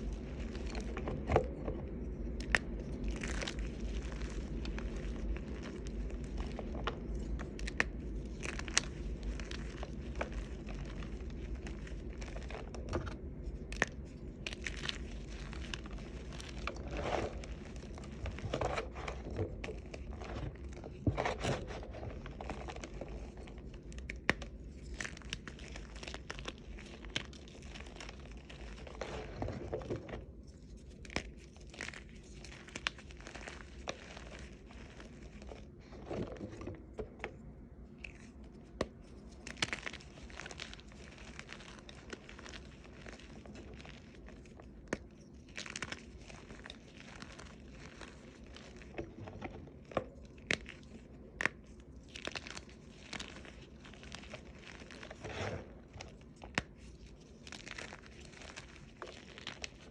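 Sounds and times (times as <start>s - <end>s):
chalk crunching and crumbling: 0.0s - 59.9s
low steady hum: 0.0s - 59.9s.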